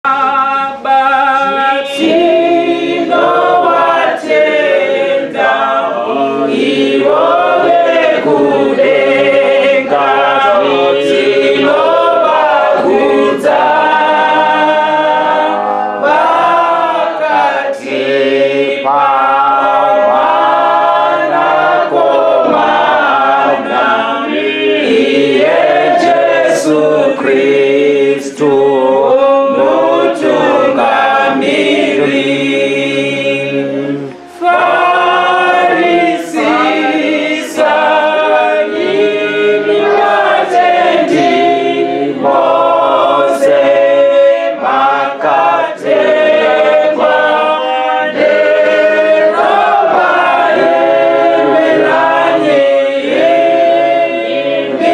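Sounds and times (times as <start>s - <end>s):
choir singing unaccompanied: 0.0s - 54.9s.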